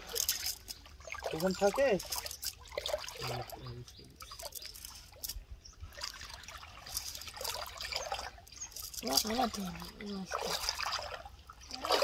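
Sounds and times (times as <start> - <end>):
splashes in shallow water: 0.0 - 12.0
water trickling and dripping: 0.0 - 12.0.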